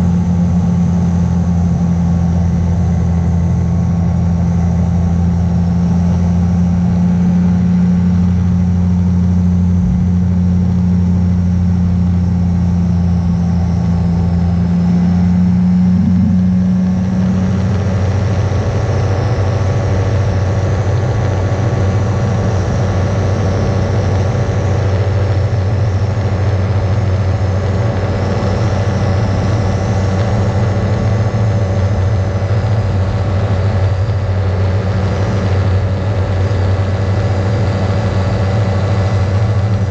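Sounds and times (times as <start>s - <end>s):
ultralight aircraft engine and propeller: 0.0s - 39.9s.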